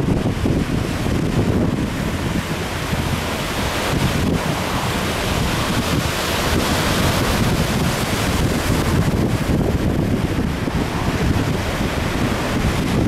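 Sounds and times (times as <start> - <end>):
surf breaking over rocks: 0.0 - 13.0
wind buffeting microphone: 0.0 - 13.0.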